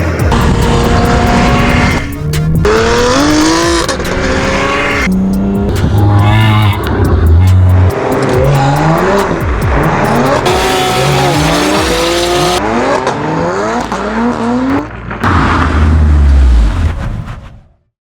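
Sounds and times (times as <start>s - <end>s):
race car engine revving: 0.0s - 17.1s.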